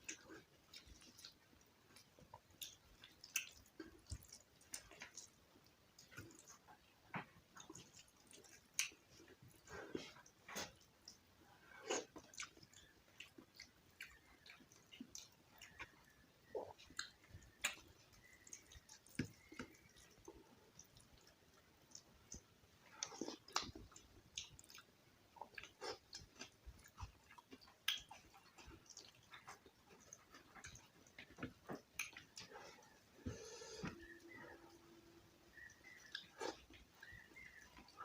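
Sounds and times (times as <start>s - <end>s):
person chewing and smacking: 0.0s - 38.0s.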